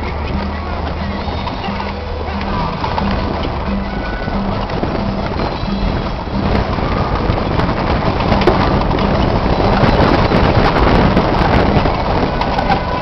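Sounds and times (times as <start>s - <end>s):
knocks and rattles: 0.0s - 13.0s
vehicle engine drone: 0.0s - 13.0s
wind noise on microphone: 0.0s - 13.0s.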